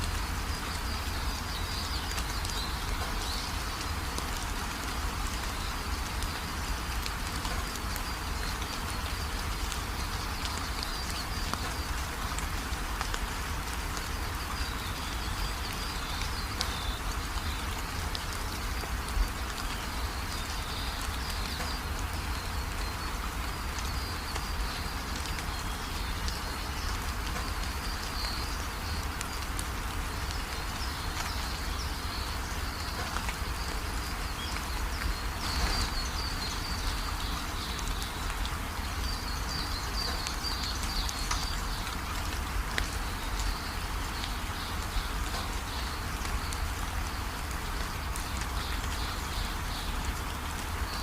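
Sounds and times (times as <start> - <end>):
rain falling: 0.0 - 51.0.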